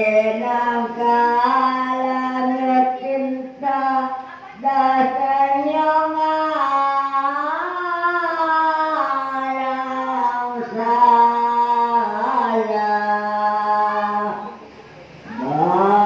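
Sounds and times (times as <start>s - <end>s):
voices singing a devotional chant: 0.0s - 16.0s.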